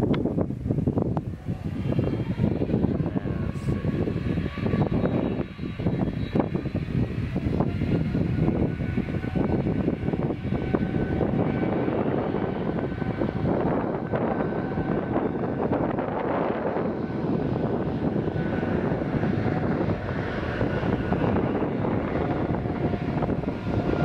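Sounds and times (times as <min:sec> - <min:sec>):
faint engine whine: 0:00.0 - 0:24.0
jet engines roaring: 0:00.0 - 0:24.0.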